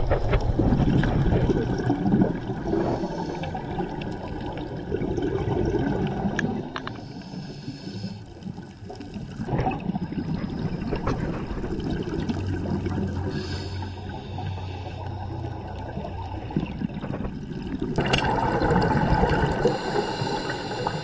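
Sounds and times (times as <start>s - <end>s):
underwater breath bubbles gurgling: 0.0s - 21.0s.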